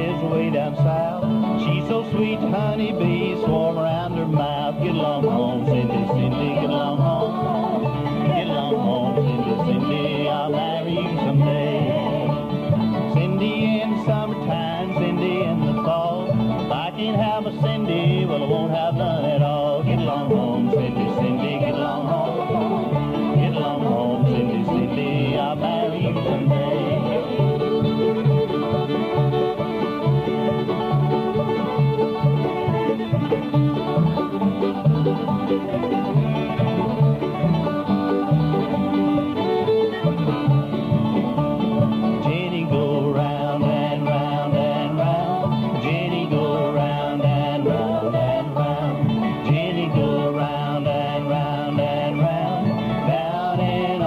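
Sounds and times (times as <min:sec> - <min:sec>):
banjo: 0:00.0 - 0:54.0
fiddle: 0:00.0 - 0:54.0
string band playing: 0:00.0 - 0:54.0.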